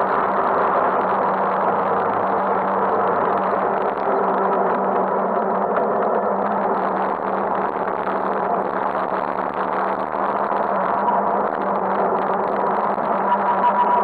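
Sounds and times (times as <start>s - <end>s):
dense rushing noise: 0.0s - 14.0s.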